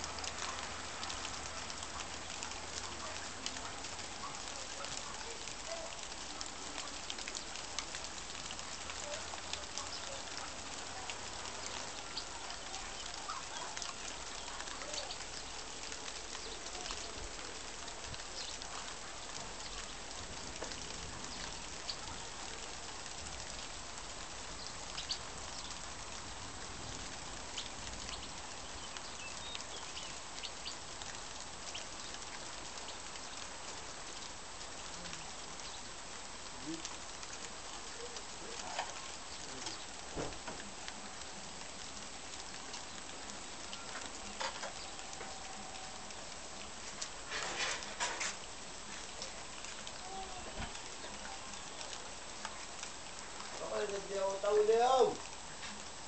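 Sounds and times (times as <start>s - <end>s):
small crackling ticks: 0.0s - 56.0s.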